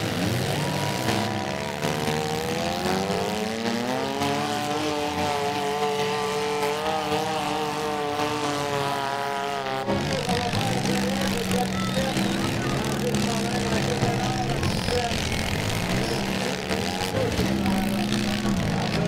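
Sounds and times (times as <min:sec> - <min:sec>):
car engines revving hard: 0:00.0 - 0:19.0
tyres spinning: 0:00.0 - 0:19.0.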